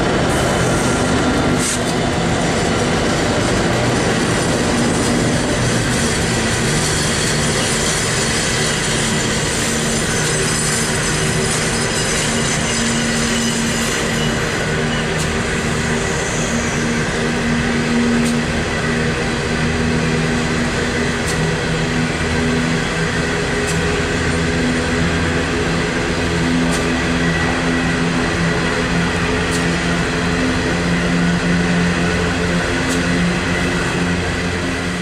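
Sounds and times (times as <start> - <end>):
train wheels rolling on rails: 0.0 - 35.0.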